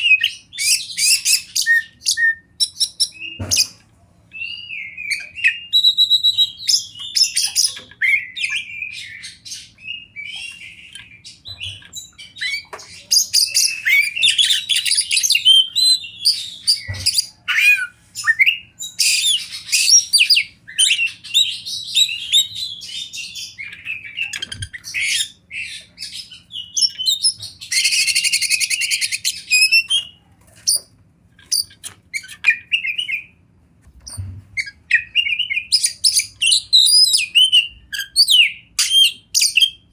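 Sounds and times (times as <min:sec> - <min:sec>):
bird singing whistles and chirps: 0:00.0 - 0:30.2, 0:31.5 - 0:33.4, 0:34.0 - 0:39.9.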